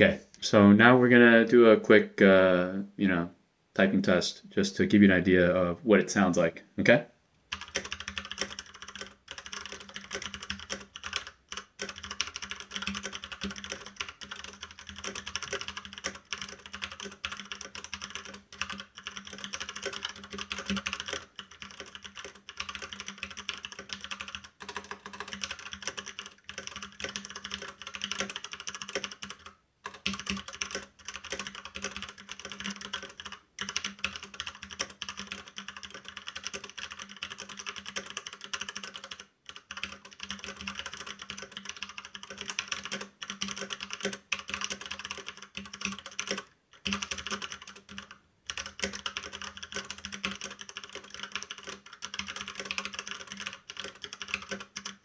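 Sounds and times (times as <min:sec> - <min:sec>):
mechanical keyboard typing: 0:07.5 - 0:55.0.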